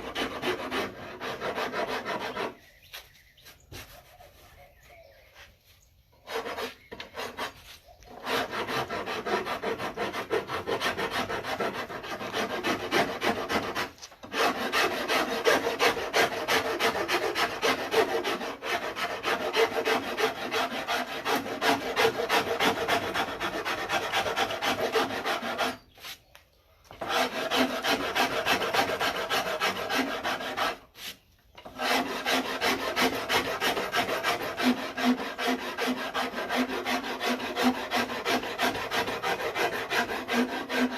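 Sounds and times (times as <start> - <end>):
wood rasp scraping: 0.0 - 4.7, 6.1 - 40.9.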